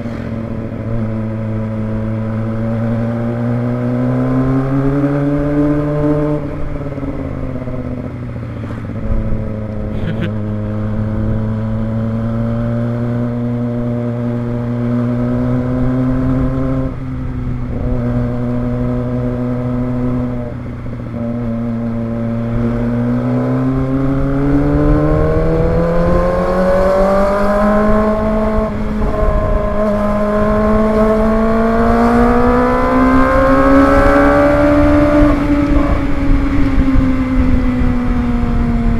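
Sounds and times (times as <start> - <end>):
motorcycle engine running: 4.8 - 12.7, 13.3 - 38.9.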